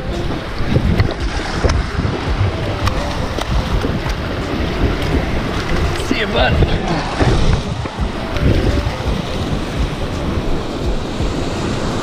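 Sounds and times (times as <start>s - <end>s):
ocean surf: 0.0s - 12.0s
wind noise on microphone: 0.0s - 12.0s.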